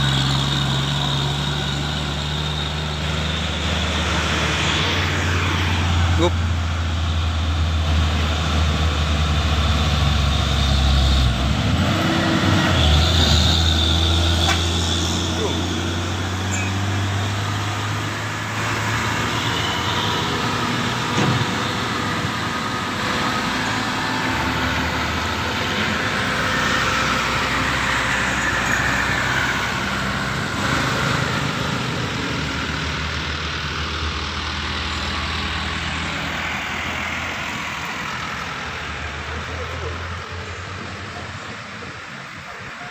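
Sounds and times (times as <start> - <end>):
diesel truck engine drone: 0.0 - 42.9
tyre and traffic noise: 0.0 - 42.9.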